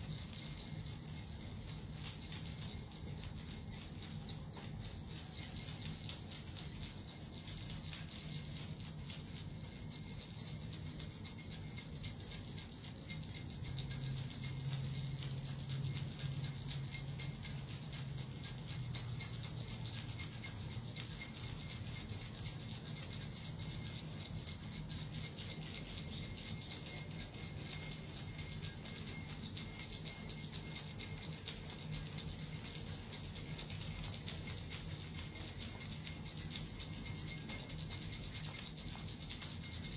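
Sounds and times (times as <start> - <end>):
small jingle bells shaken: 0.0 - 39.9.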